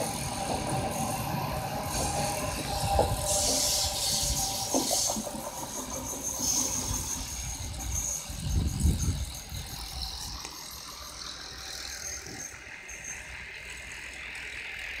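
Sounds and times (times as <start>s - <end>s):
high hiss from rails: 0.0s - 15.0s
train rolling noise: 0.0s - 15.0s.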